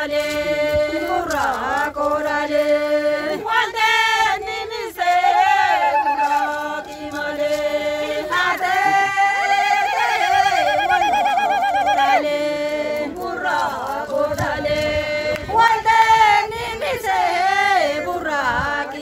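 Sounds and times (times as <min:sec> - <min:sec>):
group of voices chanting: 0:02.3 - 0:18.1.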